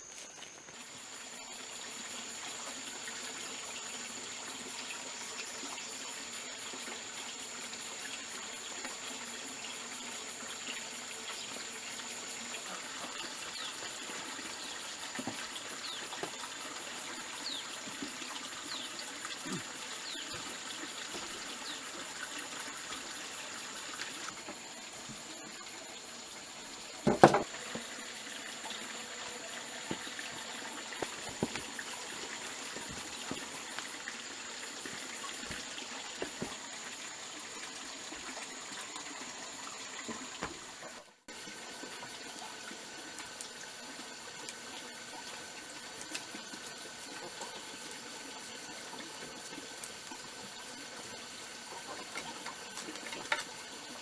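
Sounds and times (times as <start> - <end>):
water trickling and splashing: 0.1 - 54.0.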